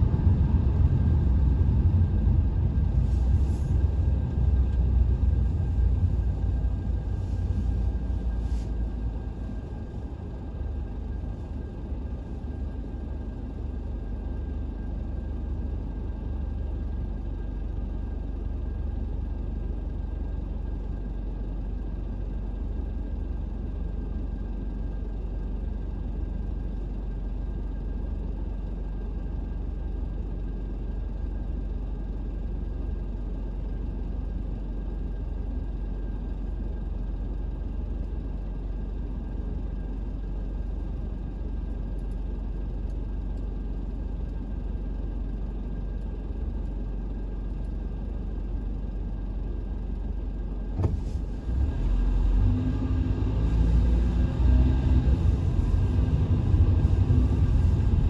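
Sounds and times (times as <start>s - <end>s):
vehicle driving rumble: 0.0s - 58.0s.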